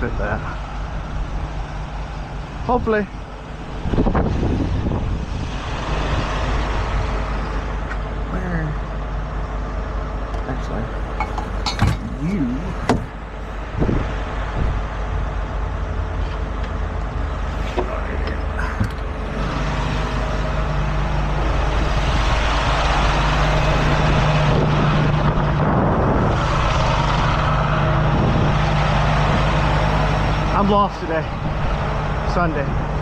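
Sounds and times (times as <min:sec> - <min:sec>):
heavy truck engine running: 0:00.0 - 0:33.0.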